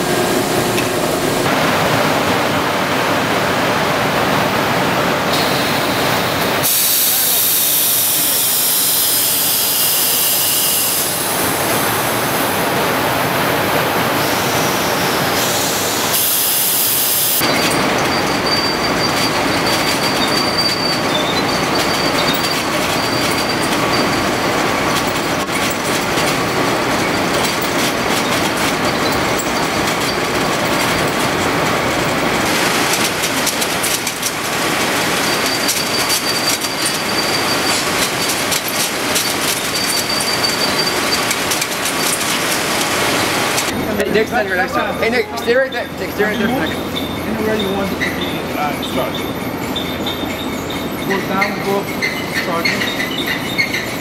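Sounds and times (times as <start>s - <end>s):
conveyor rattling and squealing: 3.1s - 54.0s.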